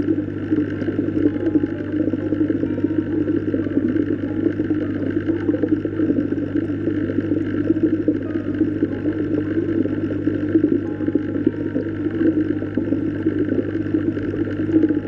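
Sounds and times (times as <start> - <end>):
low even hum: 0.0 - 15.0
underwater bubbling rush: 0.0 - 15.0.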